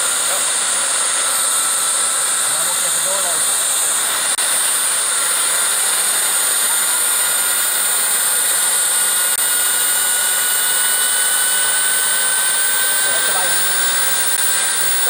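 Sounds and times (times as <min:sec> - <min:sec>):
model jet engine hissing and whining: 0:00.0 - 0:15.0.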